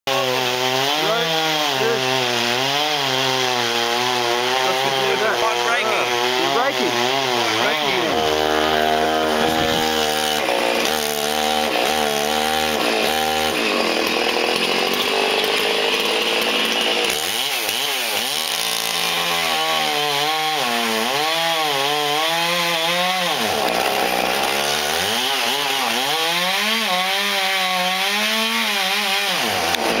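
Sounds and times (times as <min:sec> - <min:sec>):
chainsaw revving cutting log: 0:00.1 - 0:30.0.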